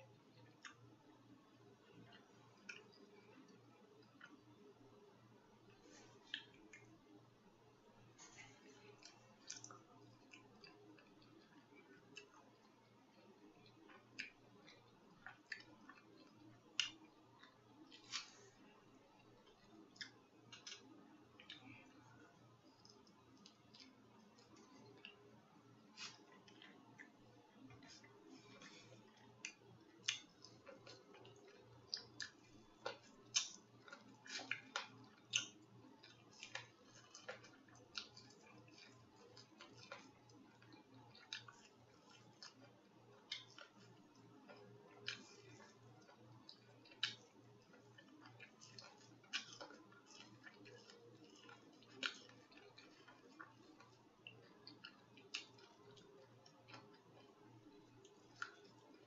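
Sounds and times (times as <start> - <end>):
mouth smacking and chewing: 0.1 - 4.8, 5.6 - 7.1, 8.1 - 59.0.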